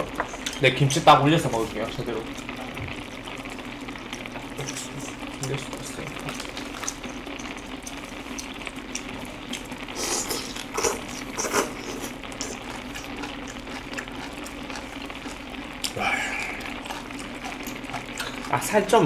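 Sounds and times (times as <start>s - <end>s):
porridge bubbling in pot: 0.0s - 19.0s
slurping and chewing: 0.2s - 0.6s, 2.3s - 19.0s.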